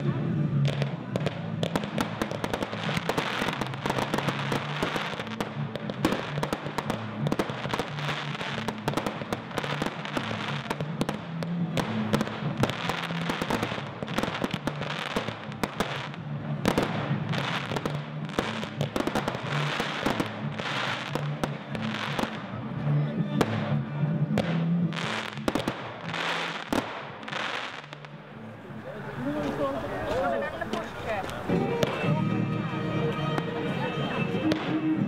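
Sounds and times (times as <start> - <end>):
fireworks bangs and crackling: 0.0 - 28.5, 29.1 - 32.4, 33.2 - 35.0.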